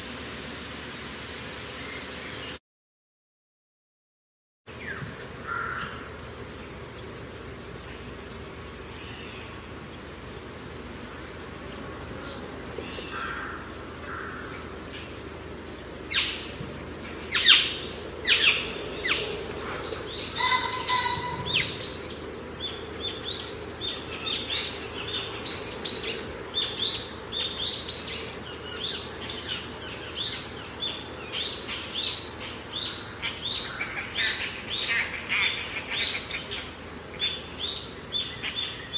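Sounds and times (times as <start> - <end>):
outdoor background hiss: 0.0 - 2.6, 4.7 - 38.9
small birds chirping: 4.7 - 38.9.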